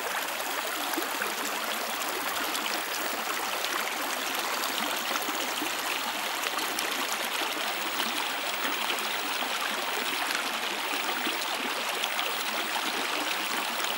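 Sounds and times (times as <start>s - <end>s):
shallow stream running: 0.0s - 13.9s.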